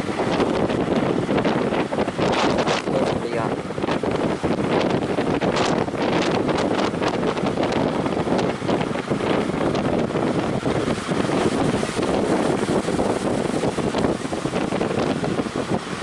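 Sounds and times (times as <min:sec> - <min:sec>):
sea waves: 0:00.0 - 0:16.0
strong wind buffeting microphone: 0:00.0 - 0:16.0.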